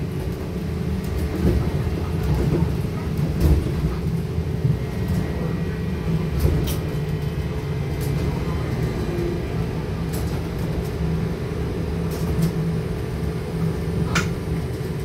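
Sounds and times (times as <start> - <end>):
trolleybus rumble: 0.0 - 15.0.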